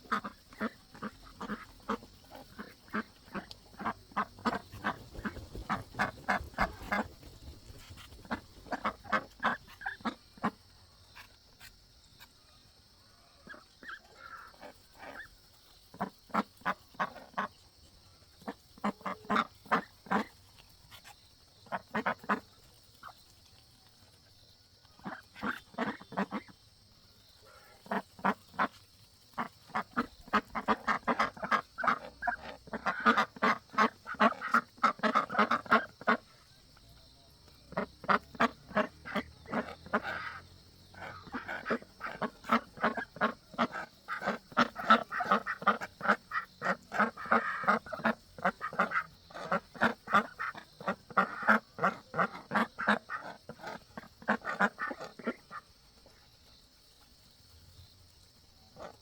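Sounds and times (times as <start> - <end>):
ducks quacking: 0.0 - 10.6, 13.2 - 17.6, 18.4 - 23.2, 24.9 - 26.6, 27.4 - 36.5, 37.6 - 56.2, 58.7 - 59.0.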